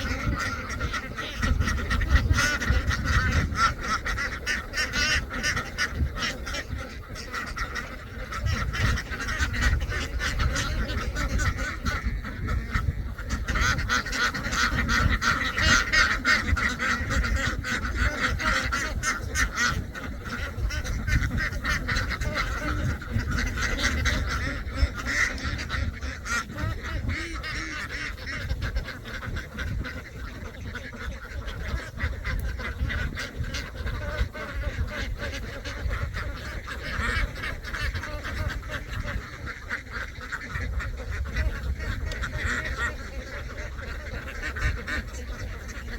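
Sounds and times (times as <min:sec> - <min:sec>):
flock of ducks quacking: 0:00.0 - 0:45.9.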